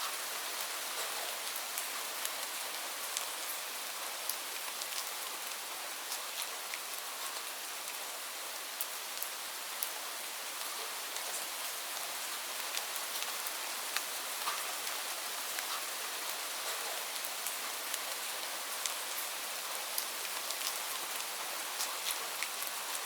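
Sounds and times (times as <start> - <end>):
raindrops ticking on a surface: 0.0 - 23.0
steady rain hissing: 0.0 - 23.0.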